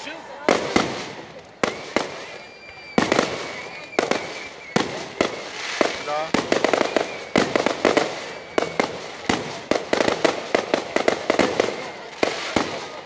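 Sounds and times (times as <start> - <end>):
firework shells bursting: 0.6 - 13.0.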